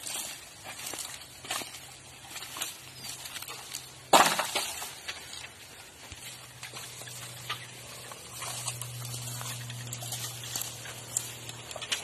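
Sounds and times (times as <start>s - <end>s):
stalks snapping and rustling: 0.0s - 12.0s.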